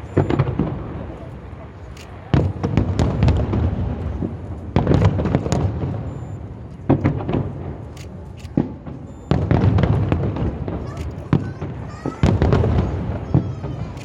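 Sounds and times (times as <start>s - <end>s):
firework shells booming: 0.0s - 14.0s
rumbling crackle: 0.0s - 14.0s
sharp firework pops: 0.0s - 14.0s.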